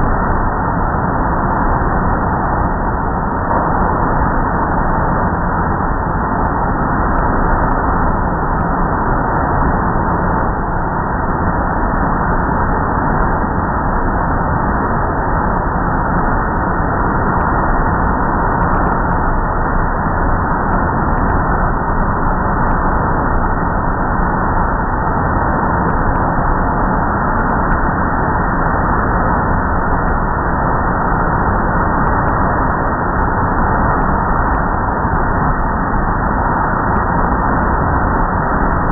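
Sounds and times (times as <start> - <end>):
faint hum: 0.0 - 38.9.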